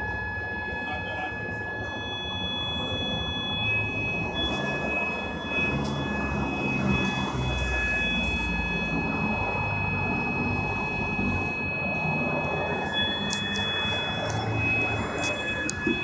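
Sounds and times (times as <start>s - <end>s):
fire alarm steady high tone: 0.0s - 16.0s
second higher alarm tone: 0.0s - 16.0s.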